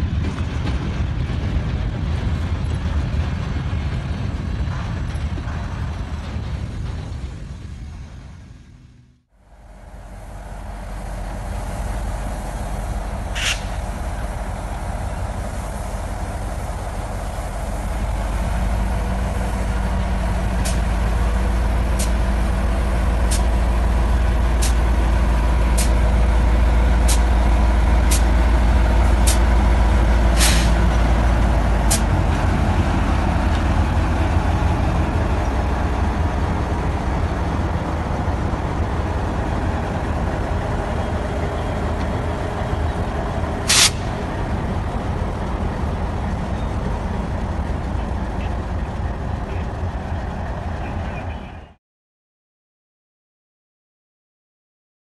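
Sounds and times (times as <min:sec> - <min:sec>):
diesel locomotive engines rumbling: 0:00.0 - 0:51.8.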